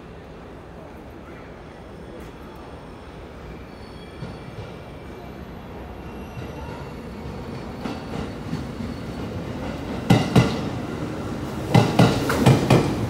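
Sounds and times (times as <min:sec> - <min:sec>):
electric train rumbling past: 0:00.0 - 0:13.0.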